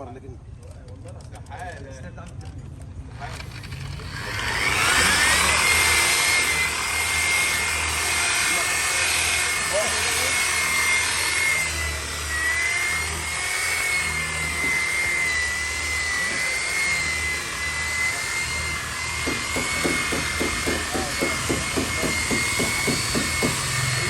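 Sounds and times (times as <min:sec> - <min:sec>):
power tool motor whining: 0:03.2 - 0:24.0.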